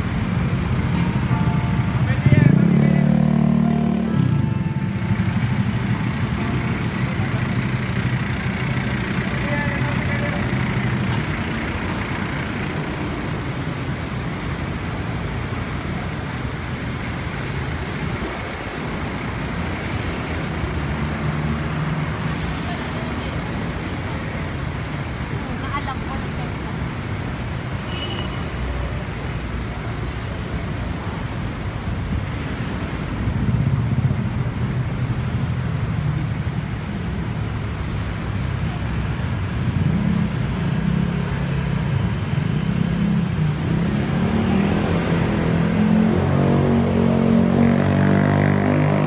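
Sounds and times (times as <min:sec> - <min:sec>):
road traffic noise: 0:00.0 - 0:49.0.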